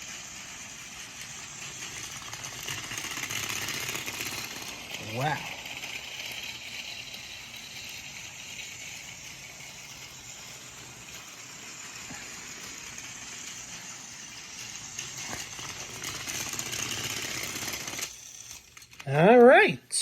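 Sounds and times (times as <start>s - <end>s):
wheels rattling on plastic track: 0.0s - 19.5s
toy train motor whirring: 0.0s - 20.0s.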